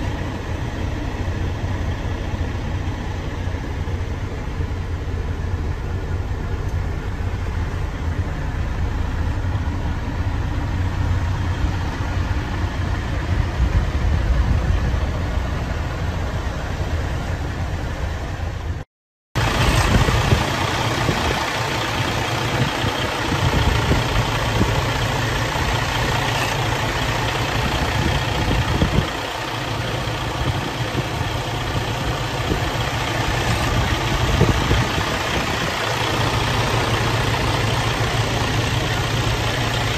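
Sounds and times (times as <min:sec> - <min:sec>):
diesel truck engine idling: 0:00.0 - 0:18.8, 0:19.4 - 0:39.9.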